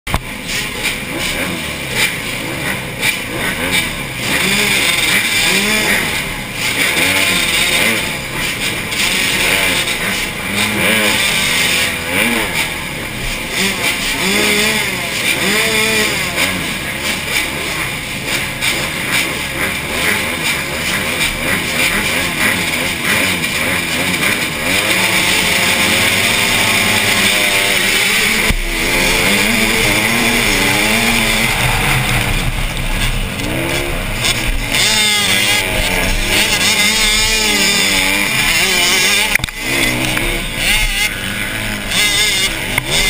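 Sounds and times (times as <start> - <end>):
engine drone: 0.0 - 43.0
motocross bikes revving: 0.1 - 43.0.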